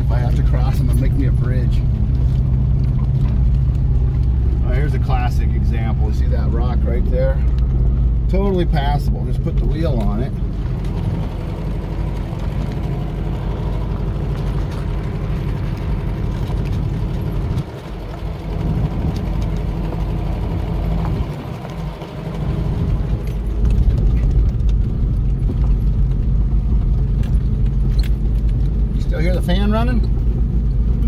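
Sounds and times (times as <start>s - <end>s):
pickup engine pulling uphill: 0.0s - 31.0s.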